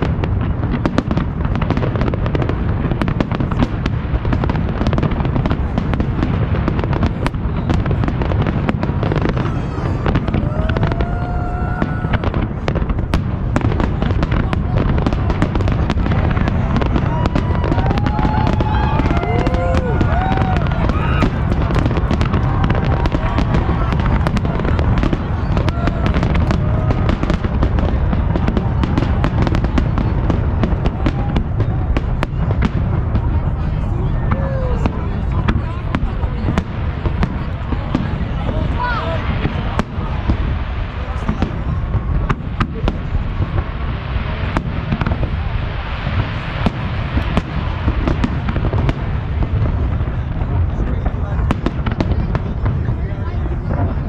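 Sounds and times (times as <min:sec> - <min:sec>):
fireworks whistling: 0:00.0 - 0:50.3
fireworks bangs and crackles: 0:00.0 - 0:54.0.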